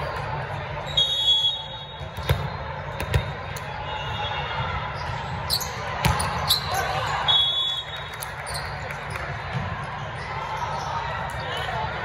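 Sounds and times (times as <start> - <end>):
echoing chatter in sports hall: 0.0 - 12.0.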